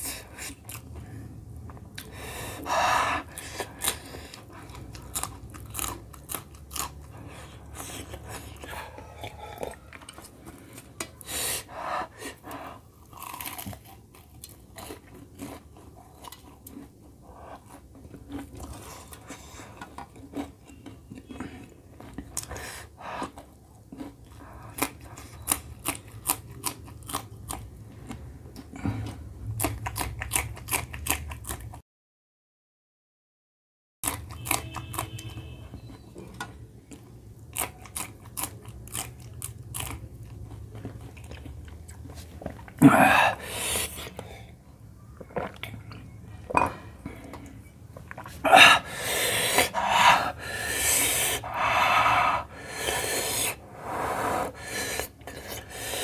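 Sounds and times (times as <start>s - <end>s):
chewing and crunching food: 0.0s - 31.8s, 34.0s - 53.6s.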